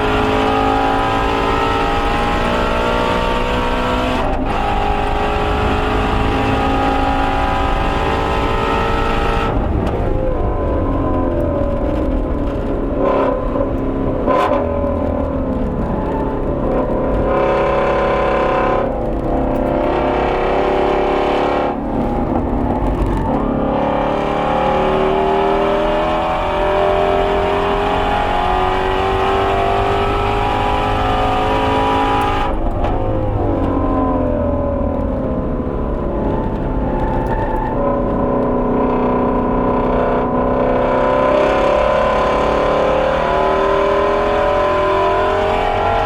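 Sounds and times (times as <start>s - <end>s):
car engine at full throttle: 0.0s - 46.0s.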